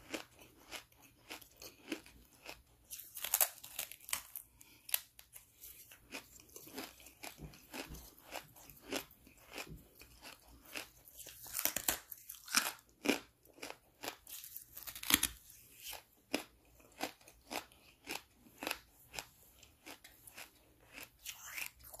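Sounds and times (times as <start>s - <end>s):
charcoal crunching in mouth: 0.0s - 22.0s.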